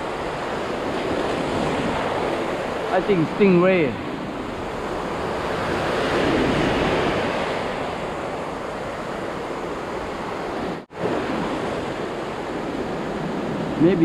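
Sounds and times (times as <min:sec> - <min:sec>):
ocean surf breaking: 0:00.0 - 0:14.0
wind on microphone: 0:00.0 - 0:14.0.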